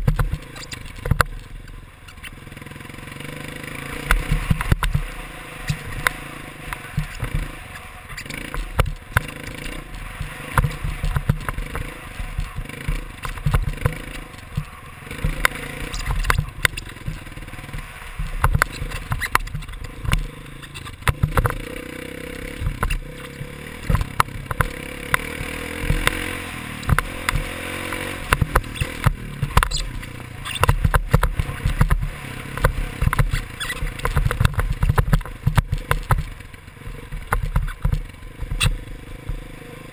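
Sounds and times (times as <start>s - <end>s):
dirt bike engine revving: 0.0s - 39.9s
knocks and rattles from bumps: 4.1s - 21.7s, 22.5s - 39.5s.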